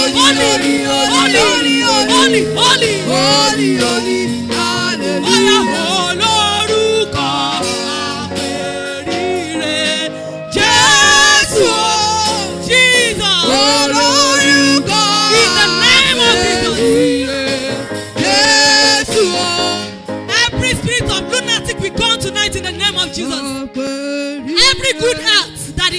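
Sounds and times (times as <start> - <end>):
held keyboard chords: 0.0 - 25.9
person singing gospel: 0.0 - 25.9.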